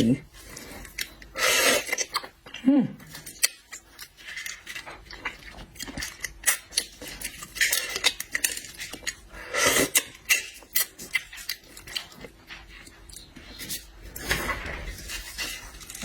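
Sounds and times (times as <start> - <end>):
shrimp being chewed: 0.0 - 14.2.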